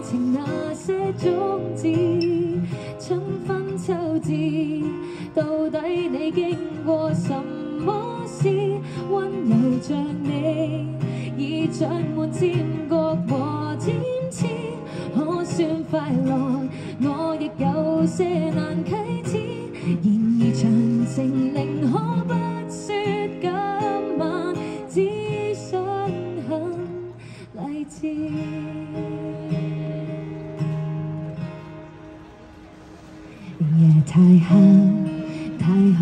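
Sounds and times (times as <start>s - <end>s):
woman singing pop ballad: 0.0s - 30.4s, 33.5s - 36.0s.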